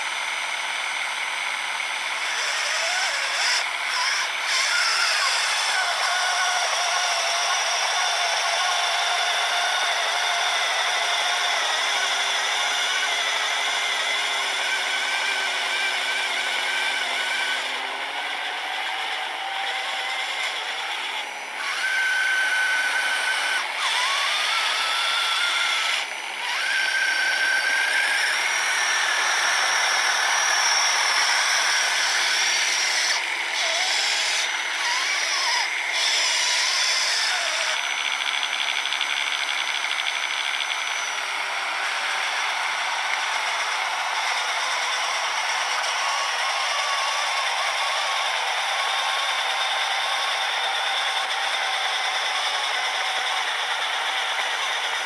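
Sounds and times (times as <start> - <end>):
electric motors whining: 0.0 - 55.0.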